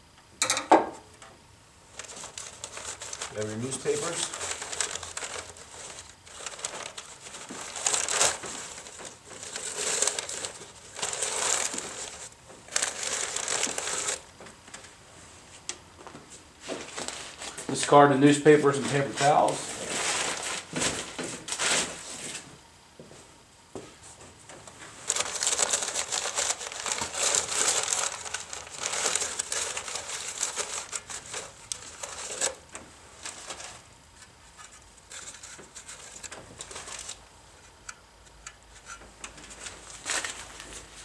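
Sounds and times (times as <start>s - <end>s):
paper crinkling and rustling: 1.9s - 22.5s, 24.1s - 41.0s.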